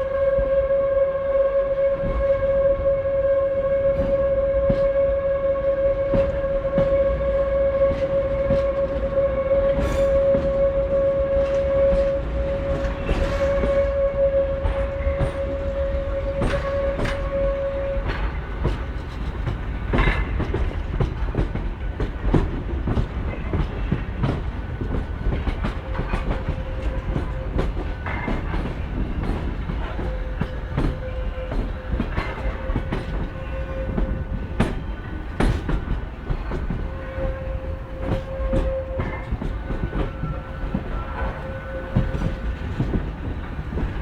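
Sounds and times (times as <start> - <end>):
low train rumble: 0.0 - 44.0
train wheels clacking over joints: 7.7 - 44.0.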